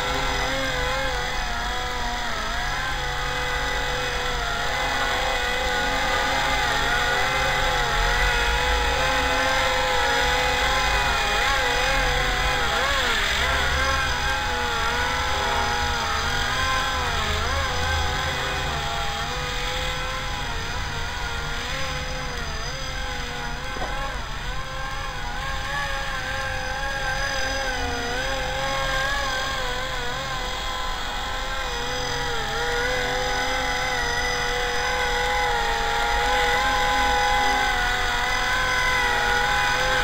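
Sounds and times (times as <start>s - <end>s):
rc helicopter motor and rotor whine: 0.0s - 40.0s.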